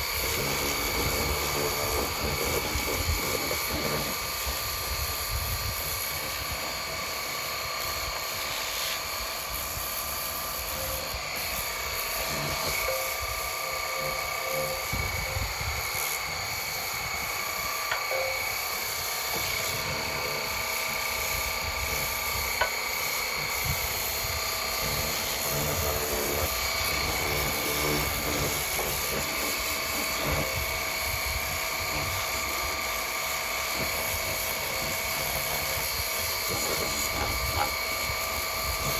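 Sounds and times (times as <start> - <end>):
pressure washer pump whining: 0.0 - 38.9
water jet hissing on metal: 0.0 - 38.9.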